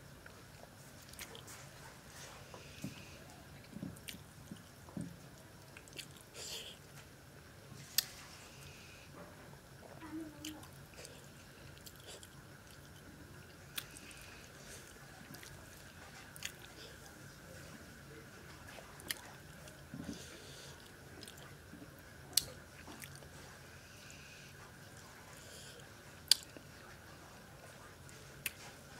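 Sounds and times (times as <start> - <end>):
soft chewing and mouth sounds: 0.0 - 28.9.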